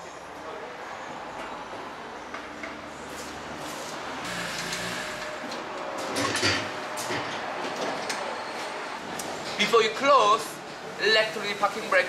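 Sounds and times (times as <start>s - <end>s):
workshop background noise: 0.0s - 12.0s.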